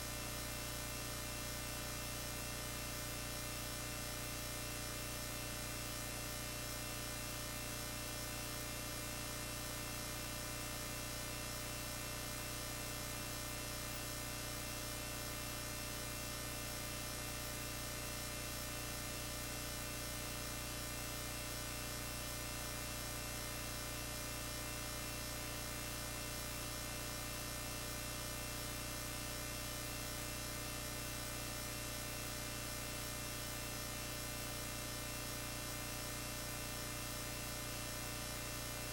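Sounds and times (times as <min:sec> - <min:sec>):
electrical hum with buzz: 0:00.0 - 0:38.9.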